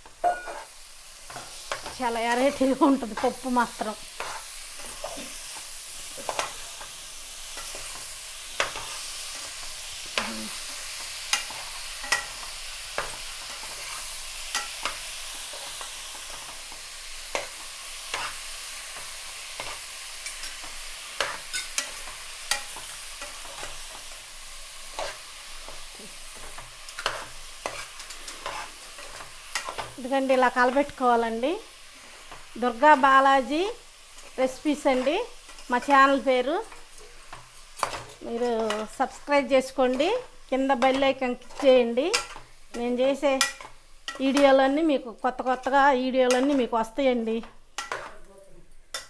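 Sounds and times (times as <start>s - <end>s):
spoon knocking and scraping pan: 0.0s - 31.0s, 34.1s - 44.8s, 45.4s - 48.3s
cabbage sizzling in a pan: 0.0s - 49.0s.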